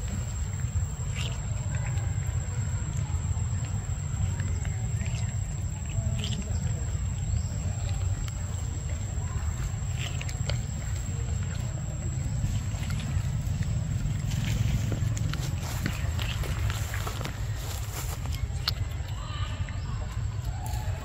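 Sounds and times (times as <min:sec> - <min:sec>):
monkey chewing clicks and smacks: 0:00.0 - 0:20.9.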